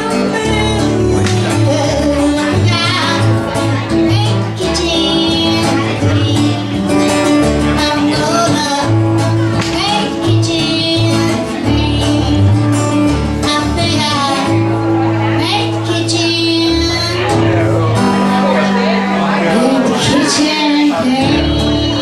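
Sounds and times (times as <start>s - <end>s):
woman singing: 0.0s - 14.7s, 15.3s - 17.4s, 19.5s - 22.0s
steady bass line: 0.0s - 20.4s
acoustic guitar: 0.0s - 22.0s.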